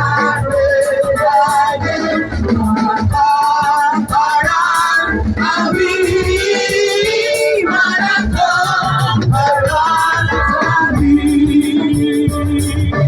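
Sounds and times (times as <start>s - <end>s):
drum beat with cymbal ticks: 0.0s - 13.0s
gospel choir singing: 0.0s - 13.0s
keyboard: 0.0s - 13.0s.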